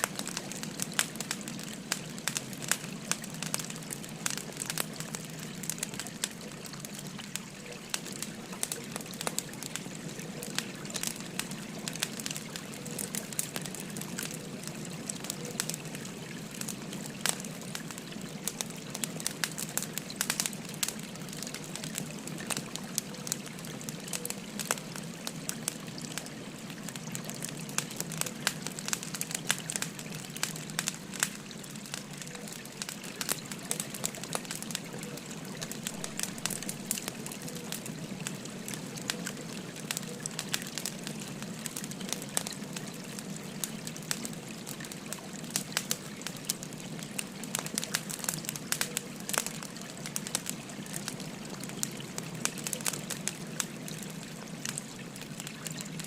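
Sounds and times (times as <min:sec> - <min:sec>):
river water flowing: 0:00.0 - 0:56.0
wood fire crackling and popping: 0:00.0 - 0:56.0.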